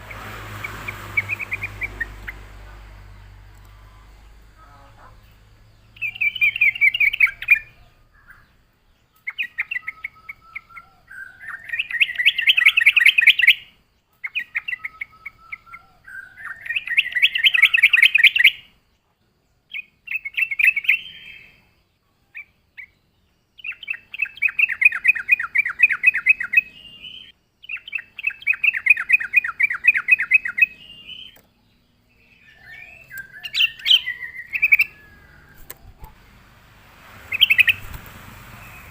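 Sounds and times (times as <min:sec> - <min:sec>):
bulbul chattering song: 0:00.0 - 0:18.8, 0:23.6 - 0:38.9.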